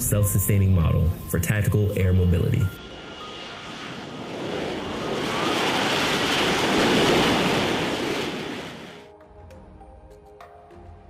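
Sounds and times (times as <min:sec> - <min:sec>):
jet aircraft passing: 0:00.0 - 0:09.1.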